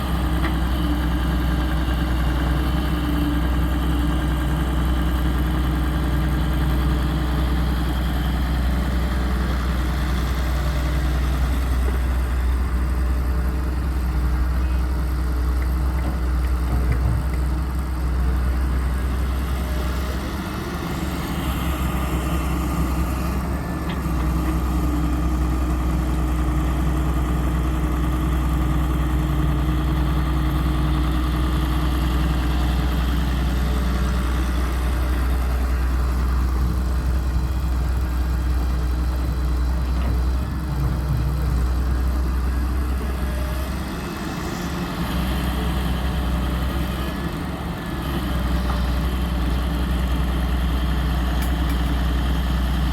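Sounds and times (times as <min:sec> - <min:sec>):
heavy diesel engine droning: 0:00.0 - 0:52.9.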